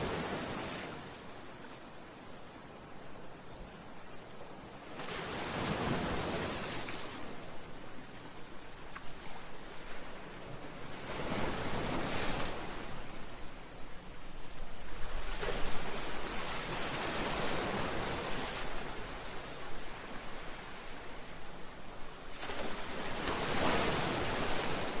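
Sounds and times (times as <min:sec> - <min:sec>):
soft wash of surf: 0:00.0 - 0:25.0.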